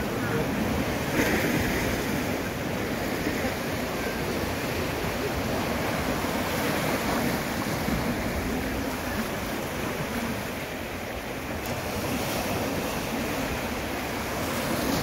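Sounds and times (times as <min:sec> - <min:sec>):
waves washing against rocks: 0:00.0 - 0:15.0.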